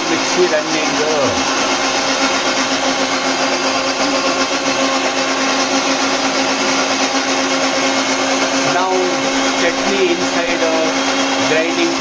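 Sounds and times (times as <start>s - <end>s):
mixer grinder motor whirring: 0.0s - 12.0s.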